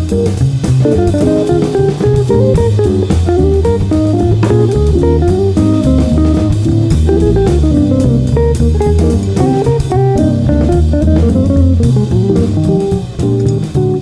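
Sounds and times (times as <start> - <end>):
jazzy guitar with bass and drums: 0.0 - 14.0.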